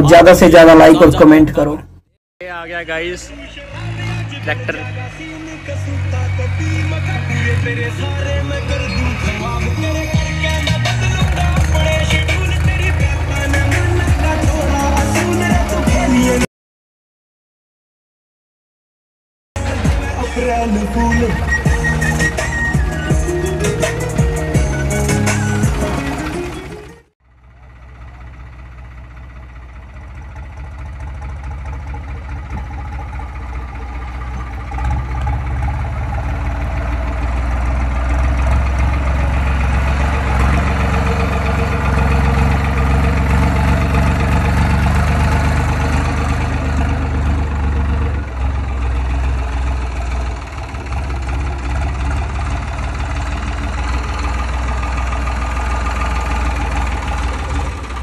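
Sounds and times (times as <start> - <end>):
tractor diesel engine running: 0.0 - 16.5, 19.6 - 58.0.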